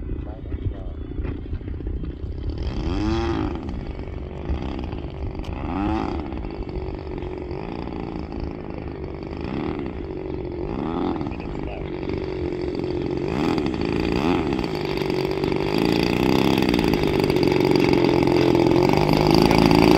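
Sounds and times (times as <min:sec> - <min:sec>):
model airplane engine idling: 0:00.0 - 0:19.9.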